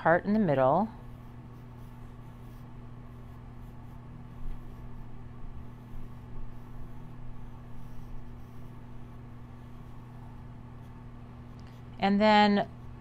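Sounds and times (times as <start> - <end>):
steady low hum: 0.0 - 13.0
pencil strokes on paper: 0.9 - 13.0.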